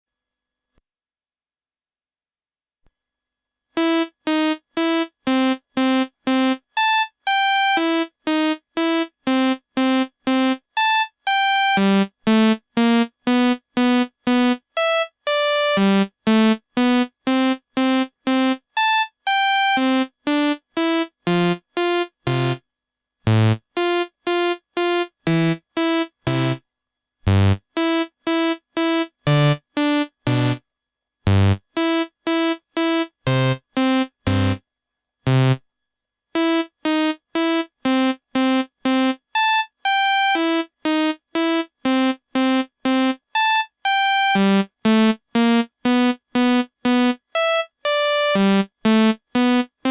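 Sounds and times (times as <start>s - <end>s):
synthesized ringtone melody: 3.8s - 22.6s, 23.3s - 26.6s, 27.3s - 30.6s, 31.3s - 34.6s, 36.4s - 49.9s.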